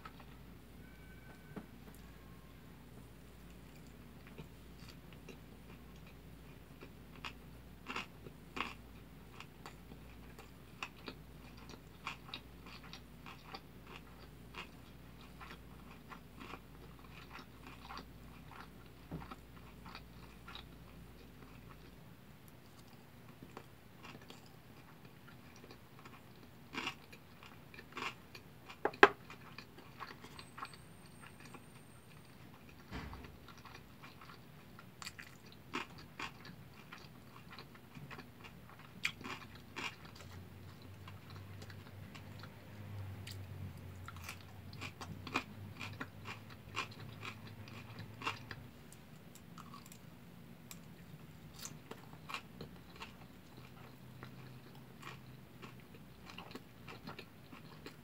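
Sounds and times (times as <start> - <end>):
person chewing with mouth clicks: 3.4 - 22.0, 22.6 - 31.6, 33.5 - 50.1, 50.7 - 58.0.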